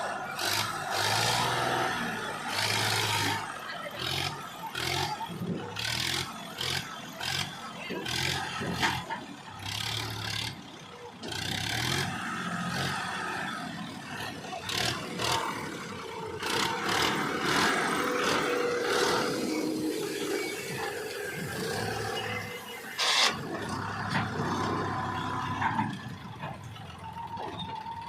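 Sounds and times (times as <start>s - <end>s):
heavy machinery engine running: 0.0s - 28.0s.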